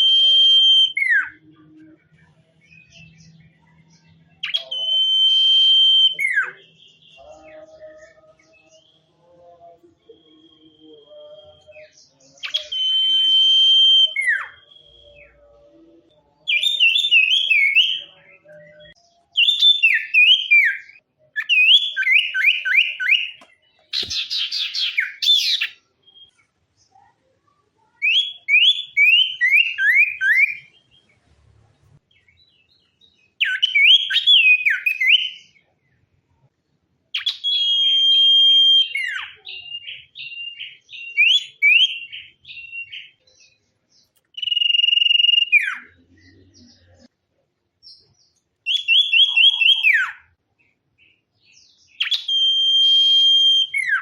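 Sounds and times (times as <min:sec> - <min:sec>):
songbird singing whistled phrases: 0:00.0 - 0:26.5, 0:27.9 - 0:31.0, 0:32.3 - 0:35.6, 0:37.1 - 0:47.1, 0:47.8 - 0:50.4, 0:51.0 - 0:54.0.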